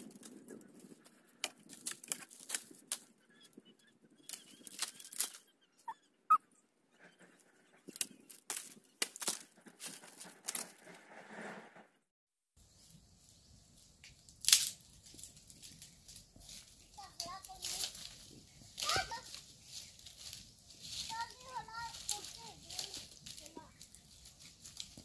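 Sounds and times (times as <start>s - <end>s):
dry leaves and branches crackling: 0.0s - 5.5s, 7.3s - 10.9s, 12.6s - 25.0s.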